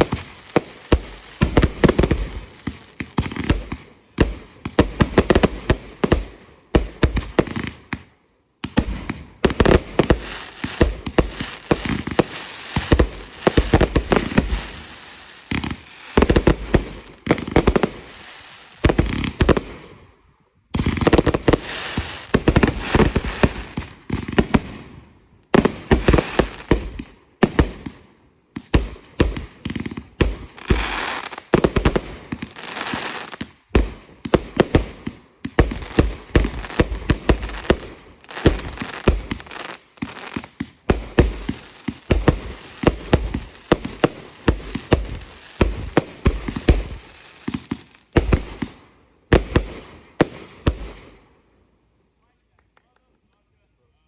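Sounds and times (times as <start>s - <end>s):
fireworks bangs: 0.0s - 8.0s, 8.6s - 19.9s, 20.7s - 28.0s, 28.6s - 51.2s.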